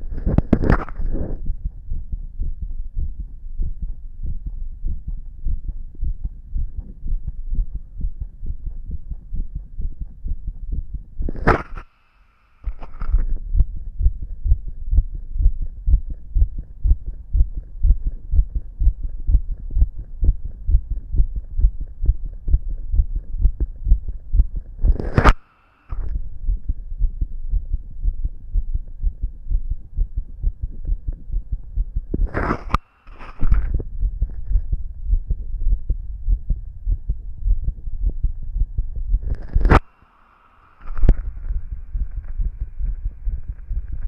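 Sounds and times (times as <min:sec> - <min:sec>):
heartbeat thumps through stethoscope: 0:00.0 - 0:11.8, 0:12.7 - 0:25.4, 0:26.0 - 0:39.8, 0:40.9 - 0:44.0.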